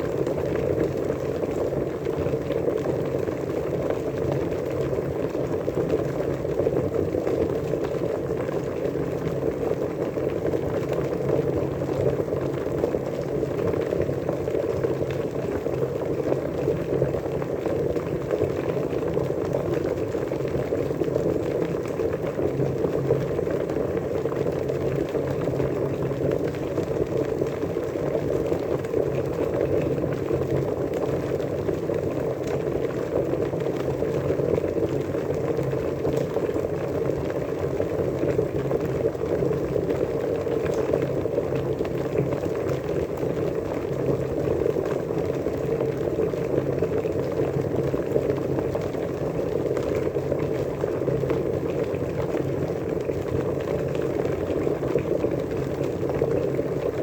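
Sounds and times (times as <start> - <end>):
water boiling: 0.0 - 57.0.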